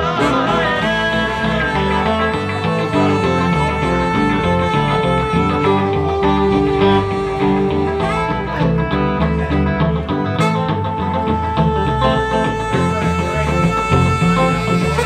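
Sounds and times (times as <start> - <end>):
electric guitar: 0.0 - 15.0
saxophone: 0.0 - 15.0
walking electric bass line: 0.0 - 15.0.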